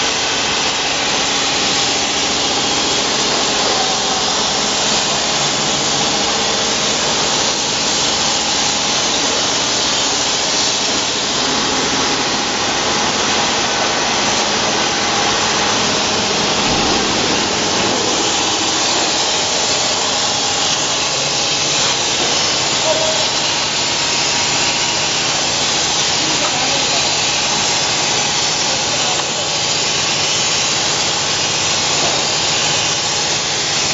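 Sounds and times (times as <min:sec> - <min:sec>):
bottle filling machine hissing: 0:00.0 - 0:33.9.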